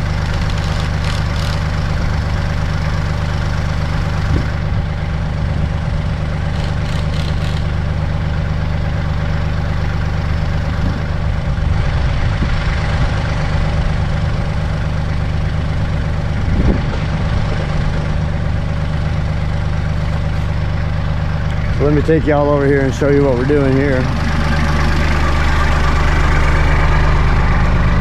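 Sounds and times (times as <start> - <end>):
engine knock: 0.0 - 28.0
tractor diesel engine idling: 0.0 - 28.0.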